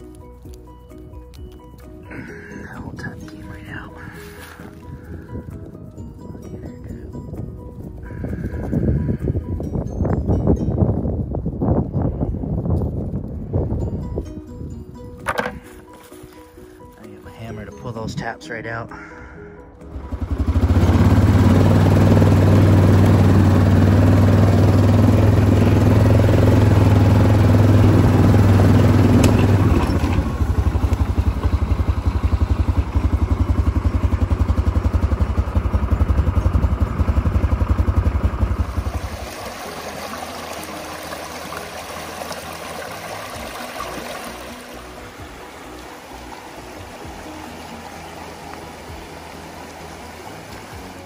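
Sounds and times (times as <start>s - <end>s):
atv engine running: 0.0s - 14.1s, 19.4s - 51.0s.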